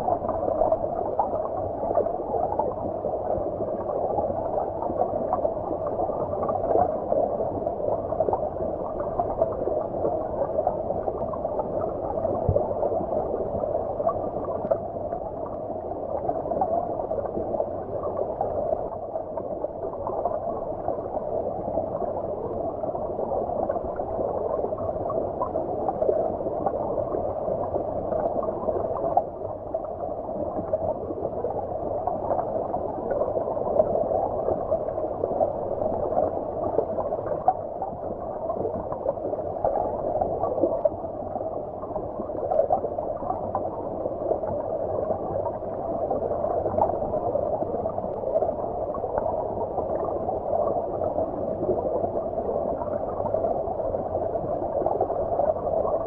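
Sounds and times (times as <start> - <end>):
muffled underwater stream gurgling: 0.0 - 56.0.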